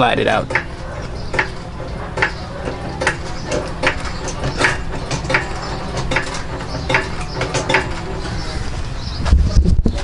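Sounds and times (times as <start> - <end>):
jack pumping with clicks: 0.0 - 8.6.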